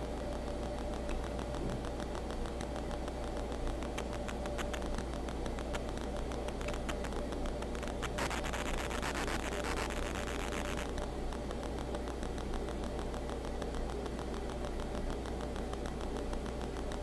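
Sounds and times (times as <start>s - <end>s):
faint fast crackle of clicks: 0.0s - 17.0s
low background hum: 0.0s - 17.0s.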